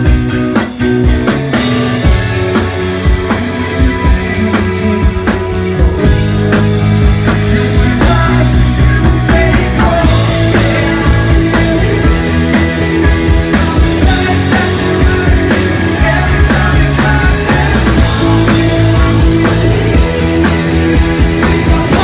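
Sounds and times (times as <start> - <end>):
bass guitar: 0.0 - 22.0
electric guitars: 0.0 - 22.0.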